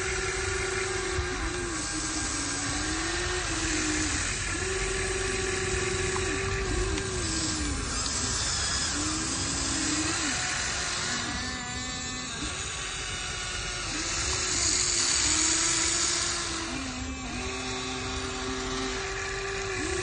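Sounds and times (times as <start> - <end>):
toy gear motors whining: 0.0 - 20.0.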